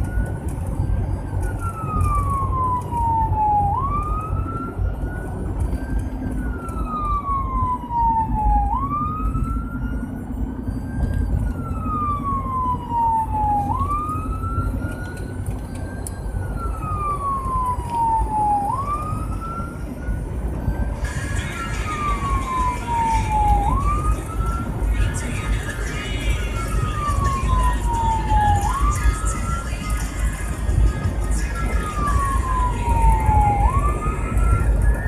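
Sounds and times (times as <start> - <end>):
emergency siren wailing: 0.0 - 35.0
engine and road rumble: 0.0 - 35.0.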